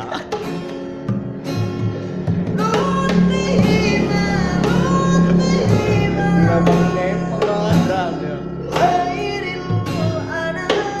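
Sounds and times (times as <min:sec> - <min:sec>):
person singing: 0:00.0 - 0:00.5, 0:02.6 - 0:11.0
strummed acoustic guitar: 0:00.0 - 0:11.0.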